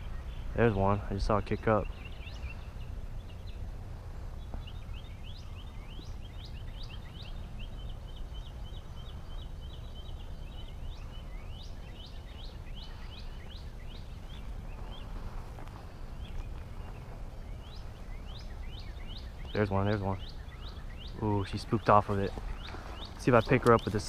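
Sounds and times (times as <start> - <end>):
songbirds singing: 0.0 - 24.0
wind rumbling on microphone: 0.0 - 24.0.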